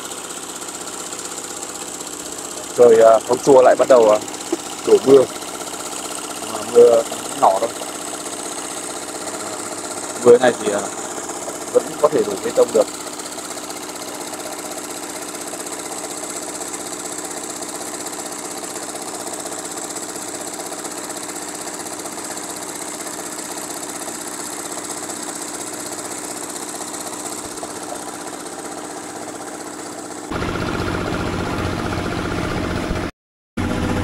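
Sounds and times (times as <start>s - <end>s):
concrete mixer churning: 0.0s - 34.0s.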